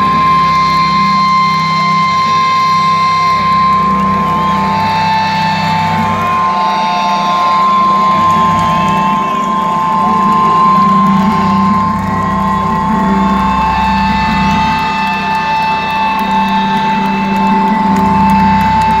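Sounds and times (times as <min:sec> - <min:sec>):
crowd noise: 0:00.0 - 0:19.0
low drone: 0:00.0 - 0:19.0.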